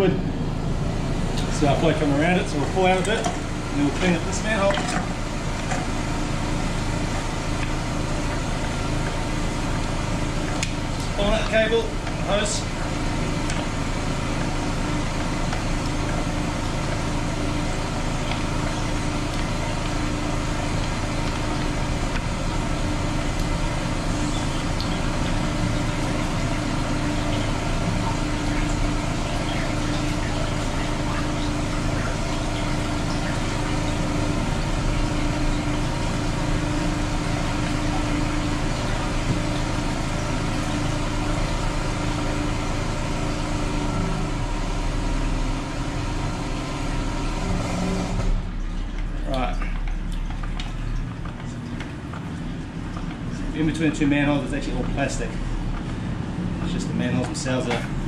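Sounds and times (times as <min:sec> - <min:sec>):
drain jetter engine running: 0:00.0 - 0:58.0.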